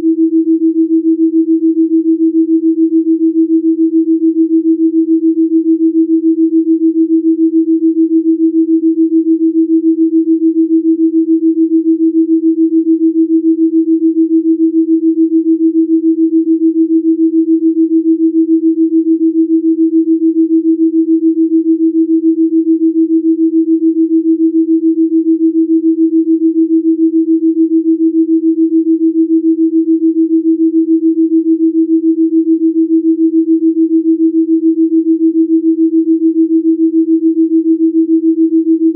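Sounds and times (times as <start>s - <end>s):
pulsing sine tone: 0.0s - 38.9s.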